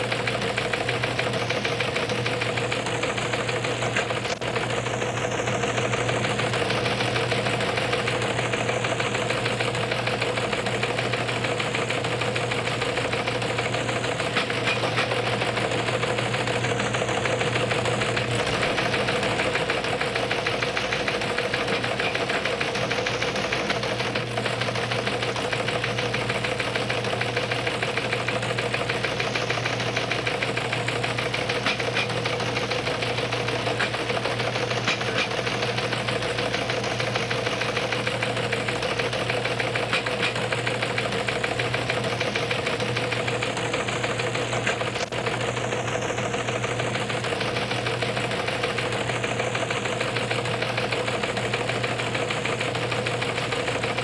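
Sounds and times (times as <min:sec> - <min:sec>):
machine clatter: 0:00.0 - 0:54.0.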